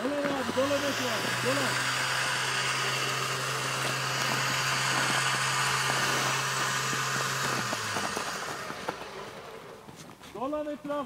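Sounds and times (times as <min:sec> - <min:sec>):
broad hiss: 0:00.0 - 0:10.4
vehicle engine idling: 0:00.0 - 0:10.7.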